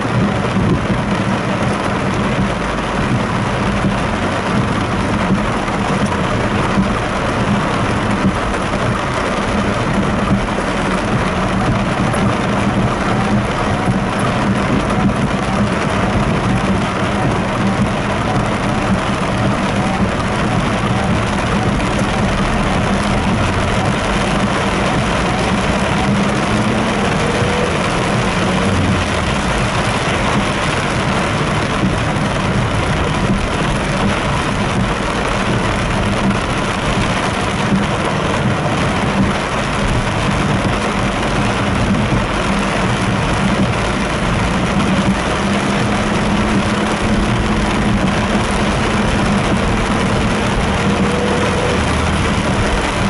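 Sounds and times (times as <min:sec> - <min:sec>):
car engine humming: 0:00.0 - 0:53.0
heavy rain on car roof: 0:00.0 - 0:53.0.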